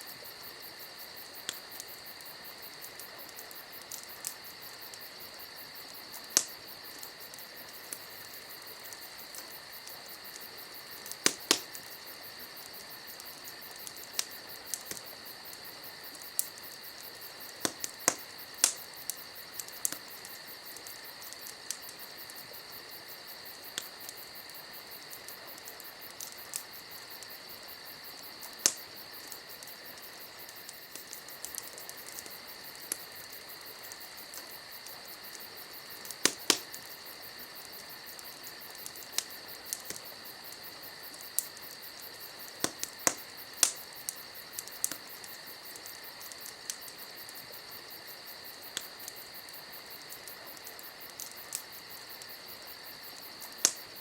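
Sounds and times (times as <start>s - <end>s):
campfire crackling: 0.0s - 54.0s
crickets chirring: 0.0s - 54.0s.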